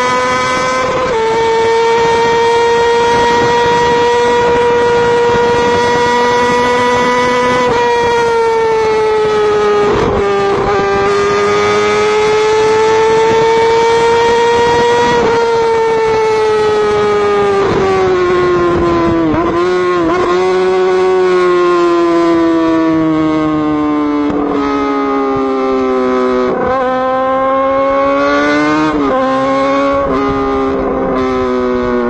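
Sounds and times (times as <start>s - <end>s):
motorcycle engine high revs: 0.0s - 32.0s.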